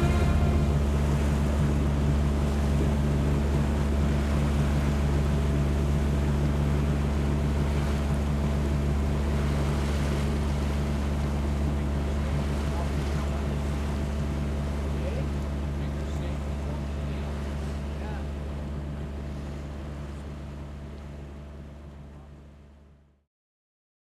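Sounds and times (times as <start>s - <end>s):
boat engine droning: 0.0s - 22.7s
wind: 0.0s - 23.0s.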